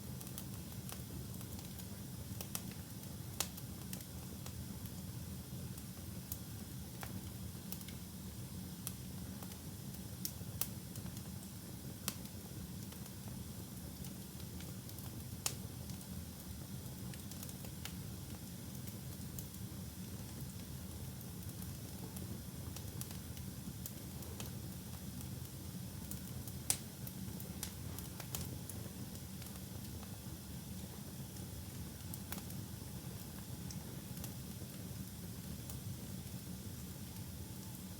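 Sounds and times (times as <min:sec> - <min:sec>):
fire crackling and popping: 0:00.1 - 0:08.1, 0:08.8 - 0:37.8.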